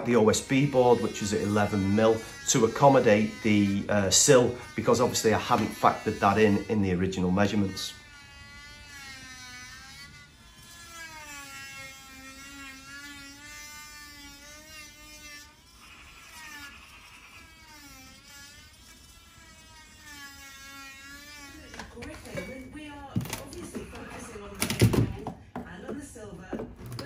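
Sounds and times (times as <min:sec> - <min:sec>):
blade rasping through wood: 0:00.0 - 0:22.1
oscillating multi-tool whining: 0:00.0 - 0:22.6.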